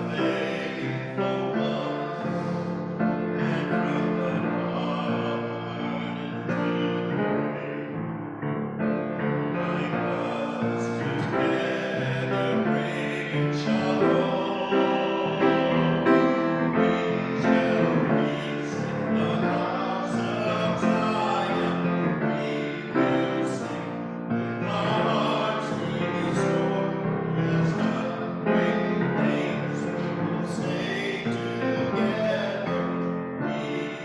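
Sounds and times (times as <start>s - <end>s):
group singing a hymn: 0.0s - 8.0s, 9.4s - 34.0s
piano accompaniment: 0.0s - 34.0s.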